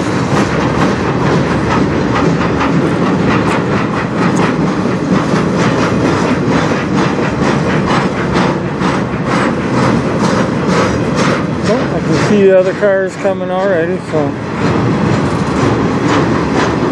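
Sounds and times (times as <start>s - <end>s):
freight train wheels rumbling on rail: 0.0s - 16.9s
train wheel clicks: 0.0s - 16.9s.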